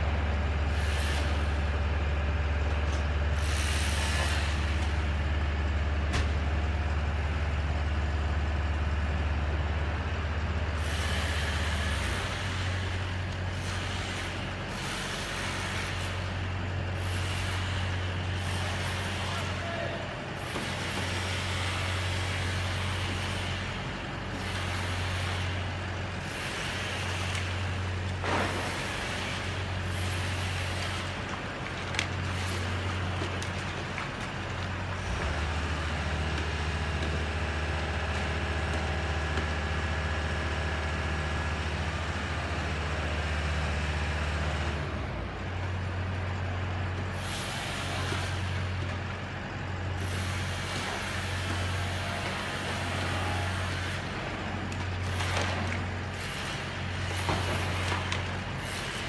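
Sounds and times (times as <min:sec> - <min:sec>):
boom lift engine droning: 0:00.0 - 0:59.0.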